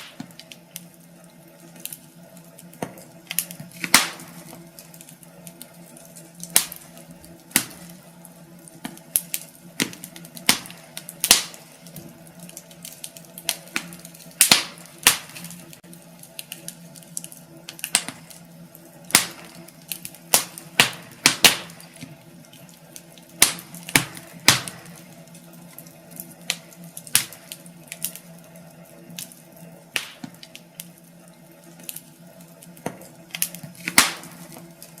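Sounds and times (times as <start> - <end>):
low steady hum: 0.0 - 35.0
wood fire crackling: 0.0 - 35.0.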